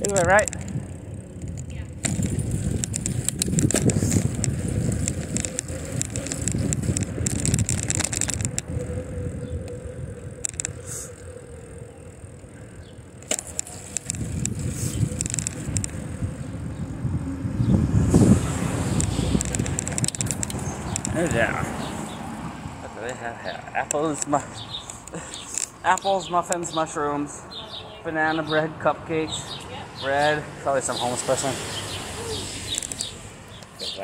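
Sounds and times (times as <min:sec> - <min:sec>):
bike ticks and rattles: 0:00.0 - 0:27.3, 0:30.8 - 0:34.0
wind and road noise: 0:00.0 - 0:34.0.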